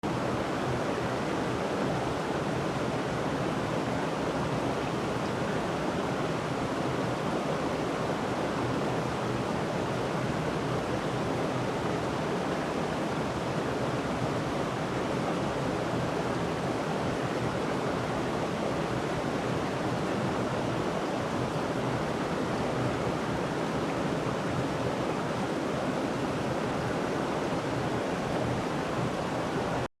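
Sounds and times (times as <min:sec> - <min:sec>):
waterfall water rushing: 0:00.0 - 0:29.9.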